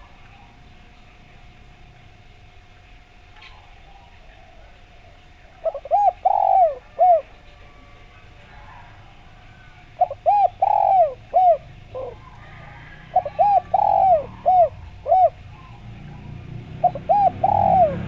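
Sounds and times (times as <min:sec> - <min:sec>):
dove cooing: 0:00.0 - 0:00.9, 0:03.4 - 0:18.0.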